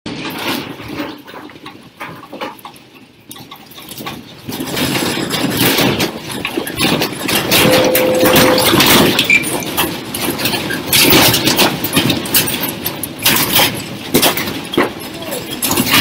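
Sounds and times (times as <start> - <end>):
furniture and objects rattling: 0.1 - 16.0.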